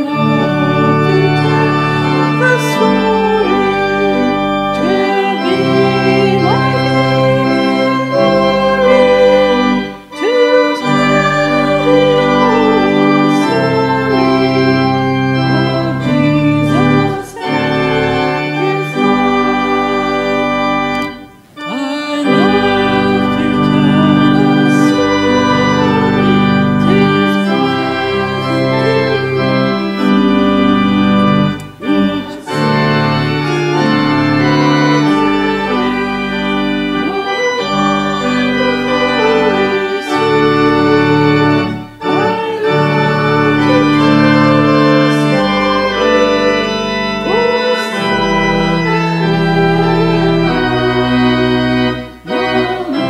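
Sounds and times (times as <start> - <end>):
church organ sustained chords: 0.0 - 53.0.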